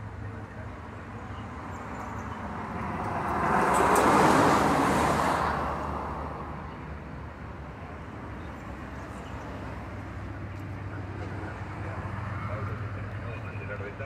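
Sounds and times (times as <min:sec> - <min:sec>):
low traffic hum: 0:00.0 - 0:14.0
vehicle passing: 0:01.5 - 0:14.0.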